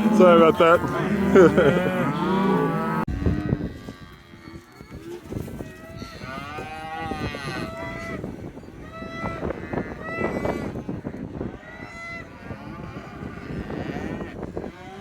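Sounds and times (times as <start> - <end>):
cattle mooing: 0.0 - 5.2, 6.0 - 8.2, 9.0 - 15.0.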